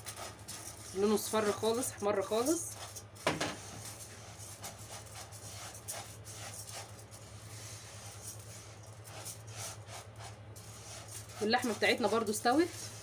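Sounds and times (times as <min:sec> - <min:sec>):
pasta sizzling and scraping in a pan: 0:00.0 - 0:13.0.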